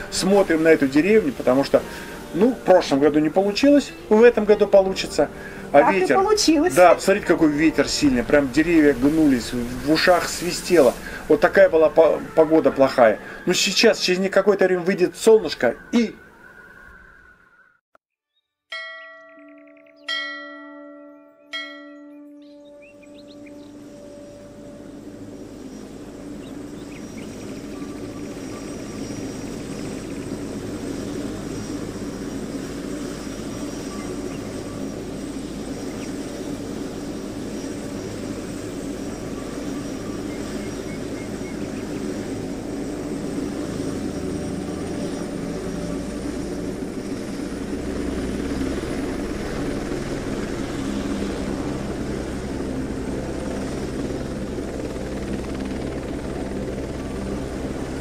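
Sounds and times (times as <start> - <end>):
drone propellers buzzing: 0.0 - 13.9, 21.5 - 58.0.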